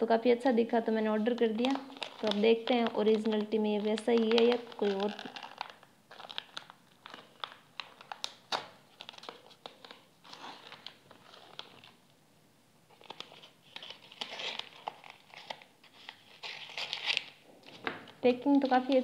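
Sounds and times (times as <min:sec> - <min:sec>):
paper pouch crinkling: 0:01.2 - 0:12.0, 0:12.9 - 0:19.0.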